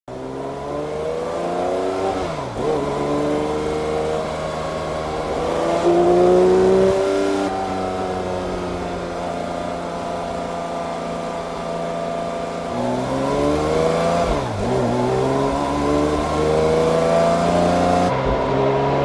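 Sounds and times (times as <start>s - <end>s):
car engine accelerating: 0.1s - 19.0s.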